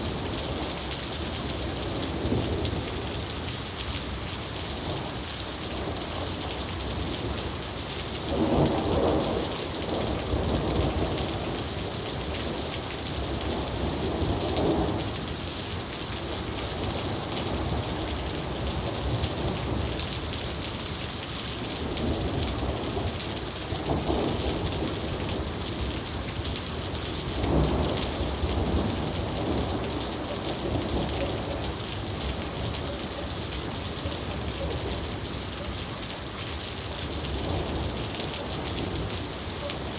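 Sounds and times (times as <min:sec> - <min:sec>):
rain pouring: 0:00.0 - 0:39.9.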